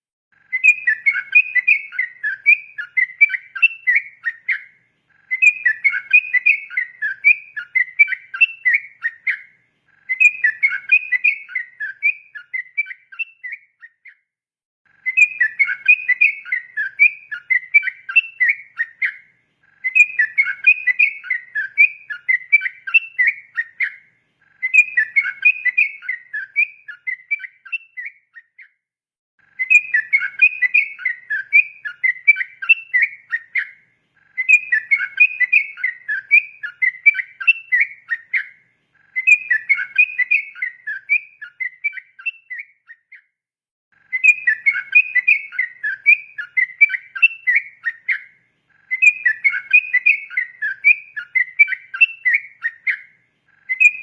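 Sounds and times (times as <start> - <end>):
bird chattering song: 0.4 - 14.3, 14.9 - 28.8, 29.4 - 43.3, 44.0 - 54.0.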